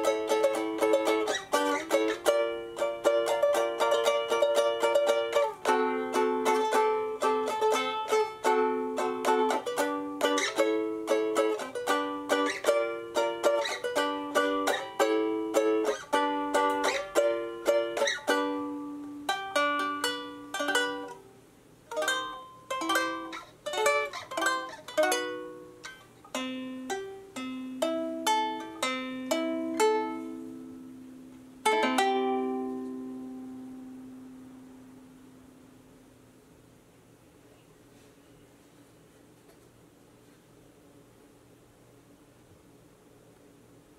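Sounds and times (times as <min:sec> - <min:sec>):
fingerpicked ukulele: 0:00.0 - 0:35.8.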